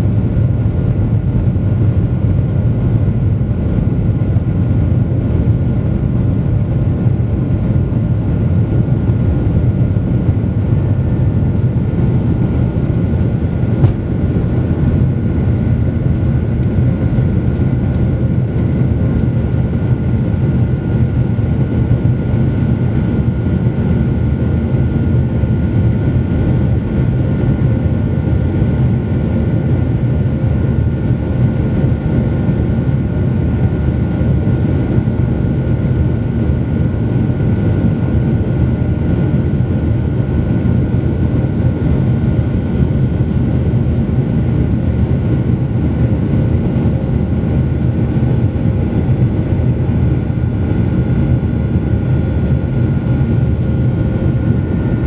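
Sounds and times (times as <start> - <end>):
jet engine low rumble: 0.0 - 55.0
jet engine whine: 0.0 - 55.0.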